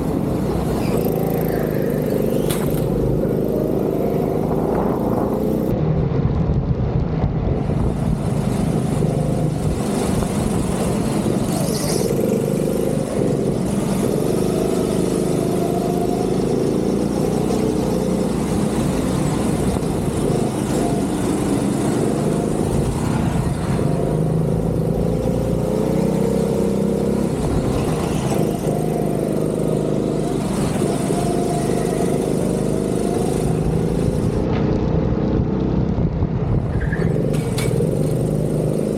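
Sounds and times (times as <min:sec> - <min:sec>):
go-kart engine accelerating: 0:00.0 - 0:05.8, 0:07.6 - 0:38.9.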